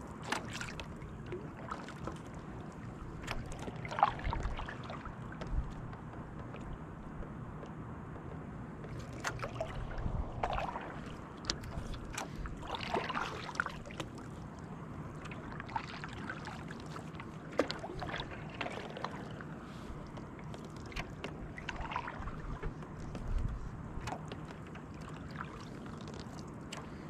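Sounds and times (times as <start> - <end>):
paddle splashing in water: 0.0 - 6.8, 8.8 - 27.0.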